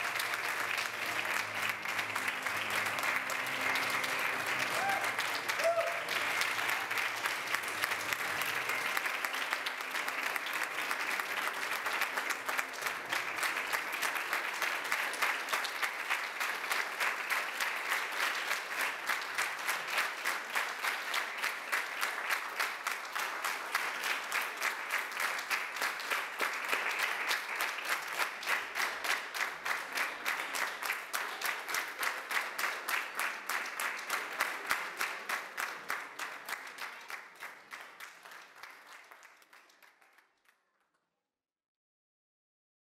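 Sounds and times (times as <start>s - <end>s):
audience applauding: 0.0s - 40.6s.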